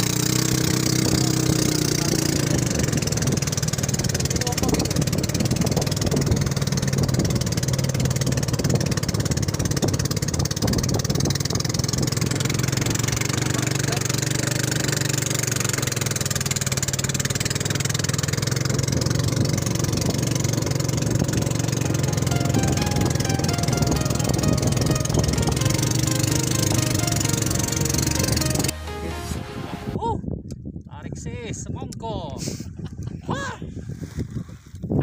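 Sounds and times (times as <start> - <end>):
boat engine running: 0.0 - 30.0.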